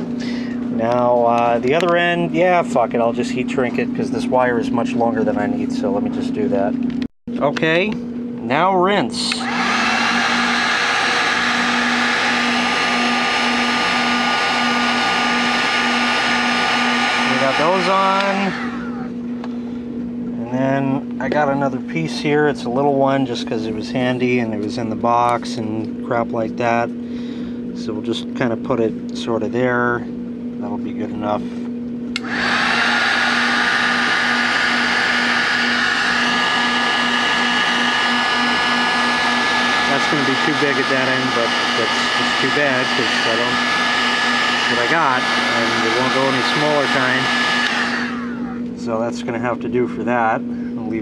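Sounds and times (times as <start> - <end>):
heat gun fan whirring: 0.0 - 51.0.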